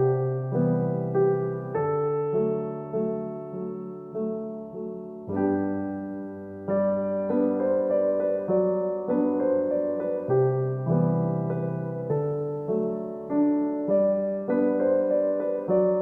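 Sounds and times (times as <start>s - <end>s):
gentle solo piano piece: 0.0s - 16.0s.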